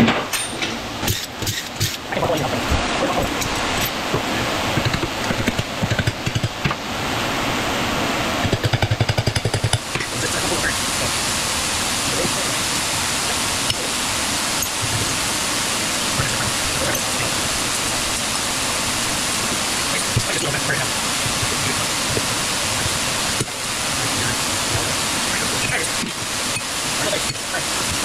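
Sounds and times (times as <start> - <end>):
fan blowing air: 0.0 - 28.0.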